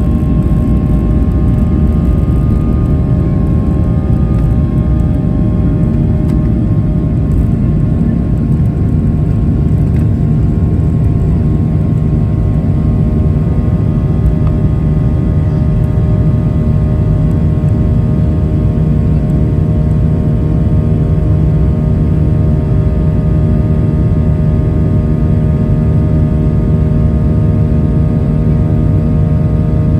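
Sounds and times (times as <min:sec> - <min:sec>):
jet engines at takeoff thrust: 0:00.0 - 0:29.9.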